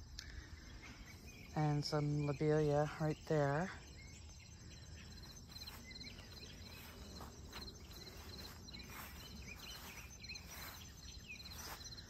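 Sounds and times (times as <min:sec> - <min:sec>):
faint outdoor background: 0:00.0 - 0:12.0
insects chirping: 0:00.0 - 0:12.0.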